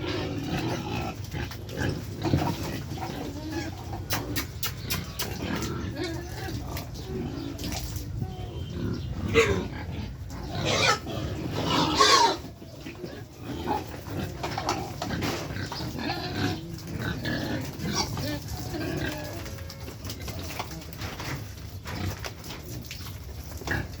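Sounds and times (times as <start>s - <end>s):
pigs crying and grunting: 0.0s - 24.0s.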